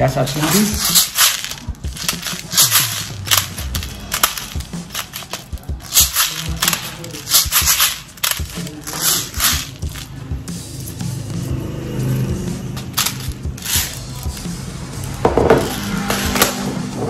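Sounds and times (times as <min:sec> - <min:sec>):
pistol magazine rattling and hissing: 0:00.3 - 0:10.2, 0:12.7 - 0:16.8.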